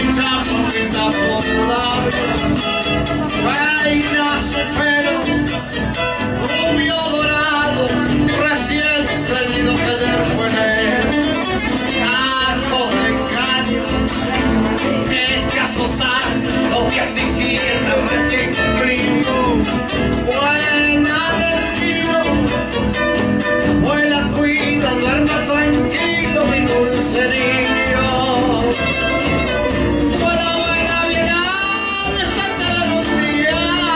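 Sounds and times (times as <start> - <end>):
folk music led by guitar: 0.0 - 33.9
person singing: 0.0 - 33.9.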